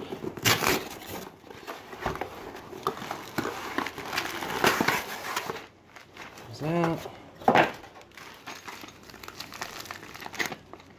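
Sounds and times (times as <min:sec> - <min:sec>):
cardboard box and plastic bag rustling: 0:00.0 - 0:07.0, 0:07.8 - 0:10.9.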